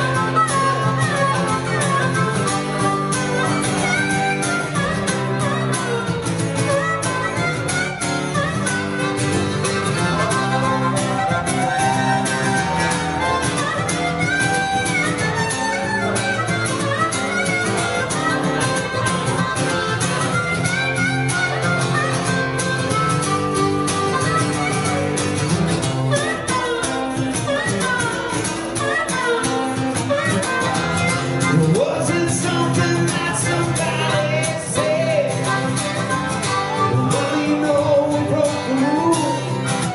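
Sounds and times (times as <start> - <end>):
acoustic guitar: 0.0 - 39.9
harmonica playing: 0.0 - 39.9.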